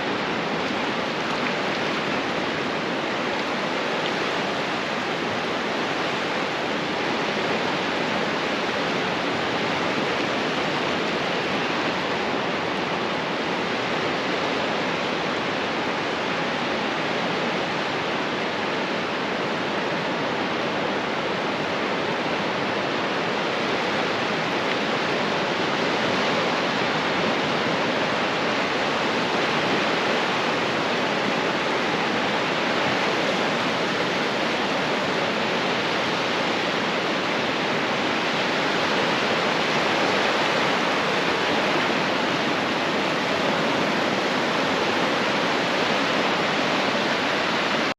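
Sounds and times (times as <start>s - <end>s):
ocean surf breaking on beach: 0.0s - 47.9s.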